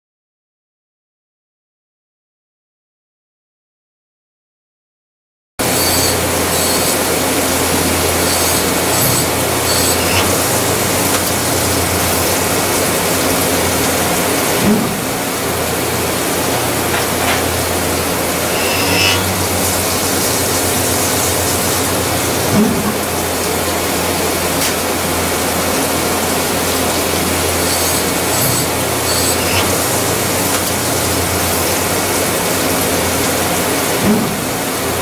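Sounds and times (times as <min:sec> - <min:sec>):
spindle hum: 0:05.6 - 0:33.8
coolant spray hissing: 0:05.7 - 0:35.0.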